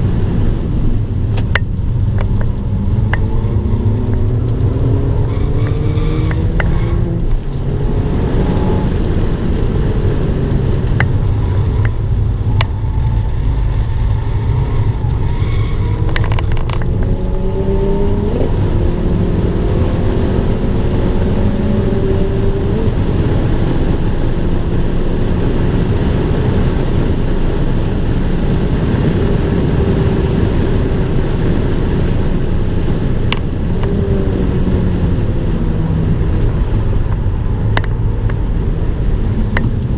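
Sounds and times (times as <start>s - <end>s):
car engine accelerating: 0.0s - 39.9s
road and tyre noise: 0.0s - 39.9s.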